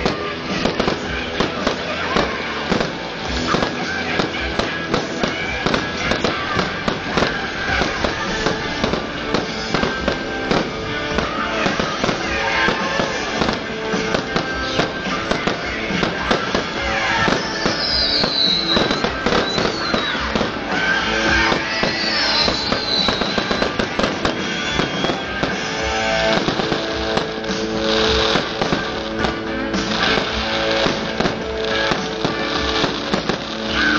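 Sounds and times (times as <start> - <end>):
fireworks bangs and crackling: 0.0 - 33.9
loud music playing: 0.0 - 33.9.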